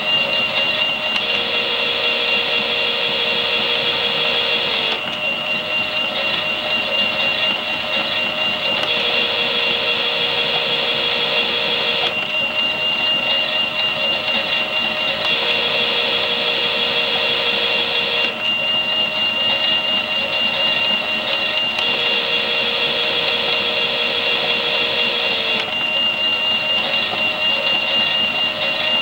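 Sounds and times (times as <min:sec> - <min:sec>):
toy washing machine motor whine: 0:00.0 - 0:29.0.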